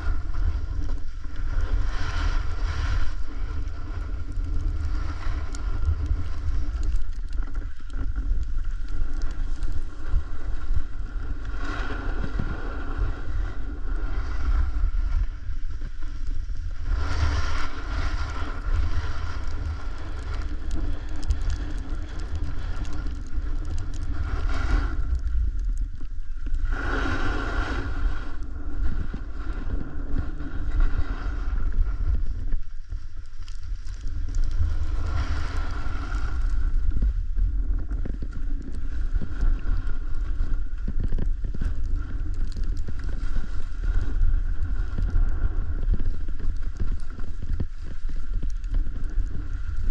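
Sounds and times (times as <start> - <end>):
snowboard sliding over snow: 0.0 - 49.9
wind buffeting microphone: 0.0 - 49.9.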